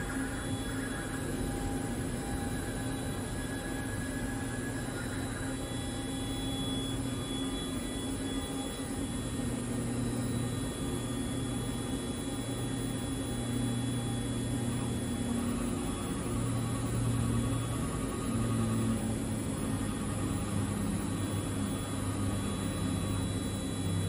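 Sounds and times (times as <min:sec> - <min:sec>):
faint whining tones: 0:00.0 - 0:24.0
machine electric hum: 0:00.0 - 0:24.0.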